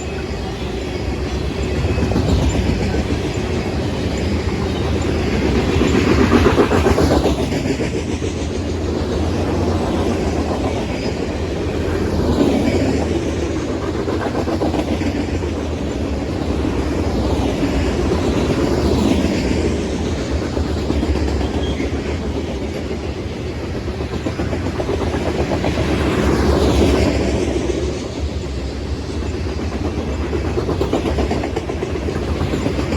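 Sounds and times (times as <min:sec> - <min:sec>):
train wheels clacking over rail joints: 0:00.0 - 0:32.9.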